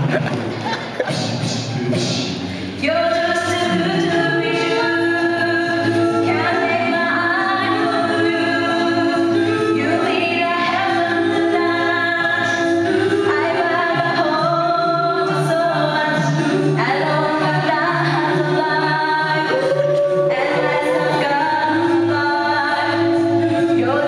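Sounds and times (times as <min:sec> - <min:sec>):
vocal ensemble singing in harmony: 0:02.8 - 0:24.0.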